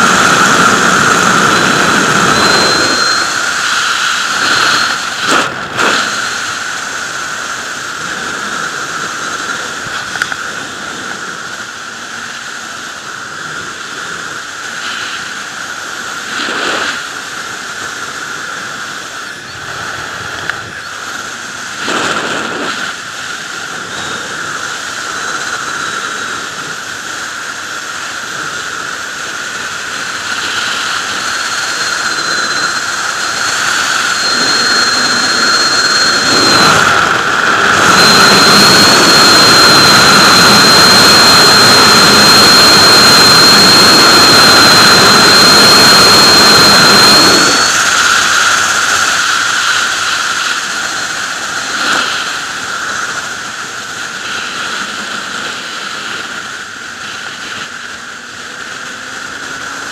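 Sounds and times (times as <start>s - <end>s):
motorcycle engine: 0.0s - 59.9s
thin steady whine: 0.0s - 59.9s
wind rushing over microphone: 0.0s - 59.9s.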